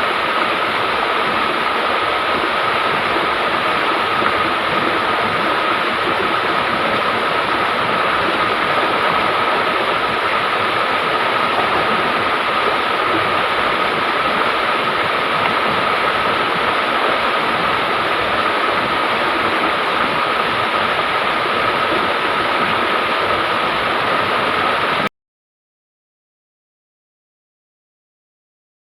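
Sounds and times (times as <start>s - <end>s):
river water rushing: 0.0s - 25.1s.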